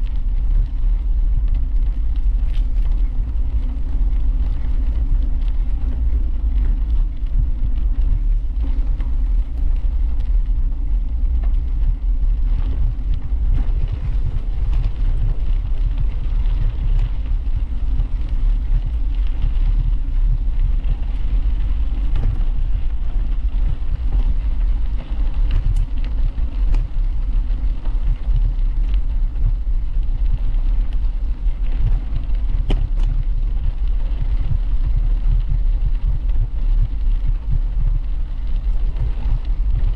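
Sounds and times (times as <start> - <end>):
wind buffeting microphone: 0.0 - 39.9
bicycle clicks and rattles: 2.0 - 6.1, 6.8 - 34.8.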